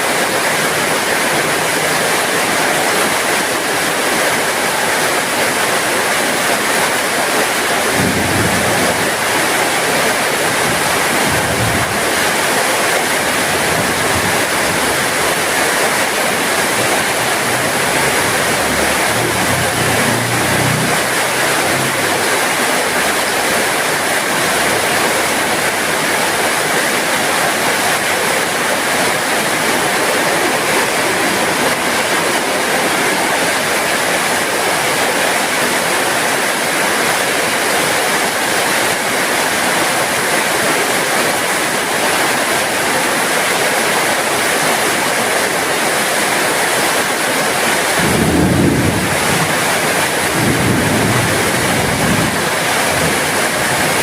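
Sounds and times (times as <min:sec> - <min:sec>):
heavy rain hissing: 0:00.2 - 0:54.0.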